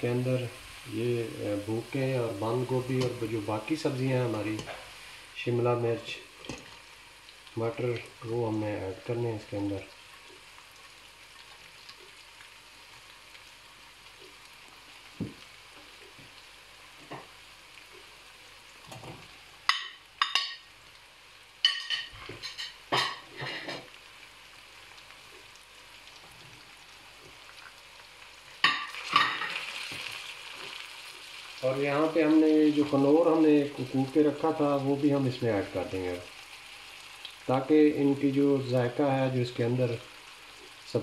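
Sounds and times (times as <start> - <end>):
food sizzling in a pot: 0.0 - 41.0.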